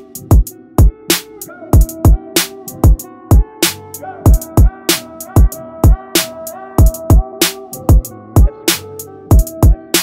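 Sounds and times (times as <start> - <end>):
hip-hop music with heavy beat: 0.0 - 10.0.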